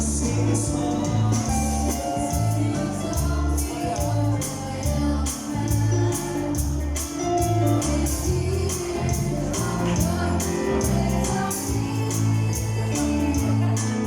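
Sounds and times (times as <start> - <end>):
heavy bass notes: 0.0 - 14.0
person singing: 0.0 - 14.0.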